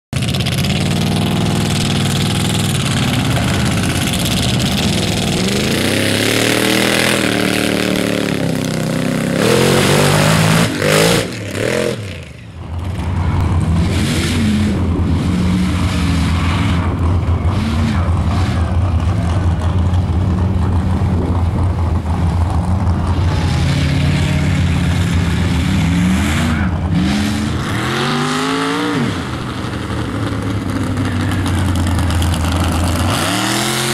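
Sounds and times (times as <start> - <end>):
truck engines revving: 0.1 - 33.9.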